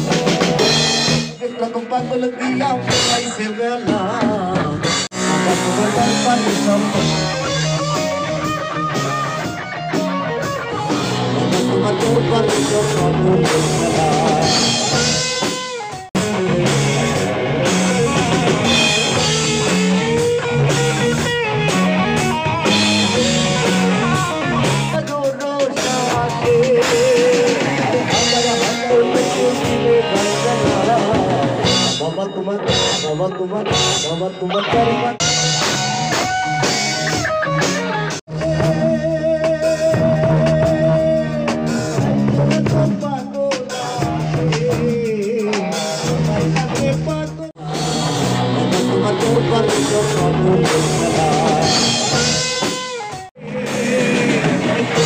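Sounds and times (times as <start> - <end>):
rock music with singing: 0.0 - 55.0.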